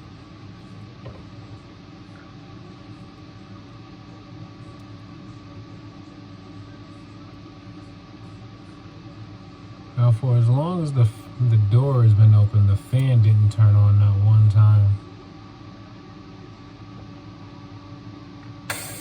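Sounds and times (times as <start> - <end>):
refrigerator electrical hum: 0.0 - 19.0.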